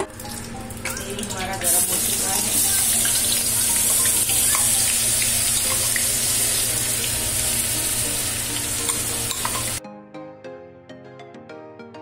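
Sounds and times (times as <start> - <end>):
paste sizzling in hot oil: 0.0 - 9.8.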